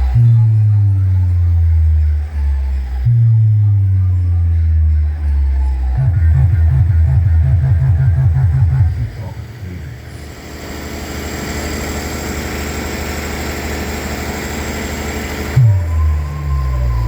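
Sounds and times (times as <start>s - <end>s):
bass-heavy music: 0.0s - 17.0s
engine-like roaring noise: 0.0s - 17.0s.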